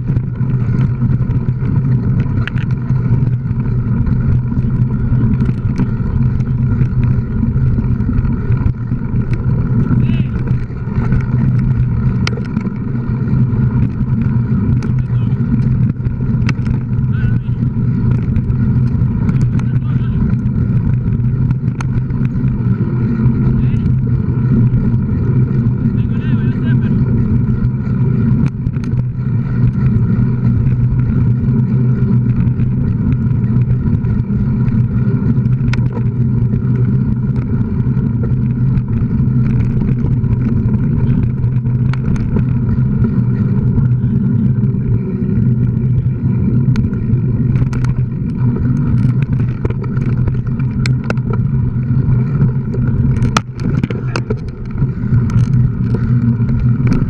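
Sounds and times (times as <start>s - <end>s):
bike clicks and rattles: 0.0s - 57.0s
loud steady drone: 0.0s - 57.0s.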